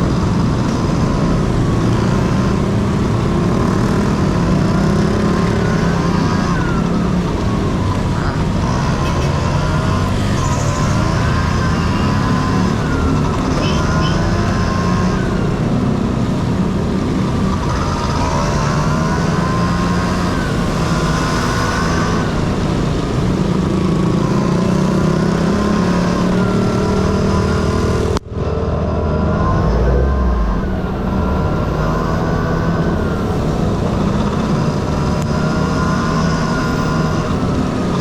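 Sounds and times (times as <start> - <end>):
scooter engine revving: 0.0 - 28.2, 28.8 - 38.0
road and wind noise: 0.0 - 38.0.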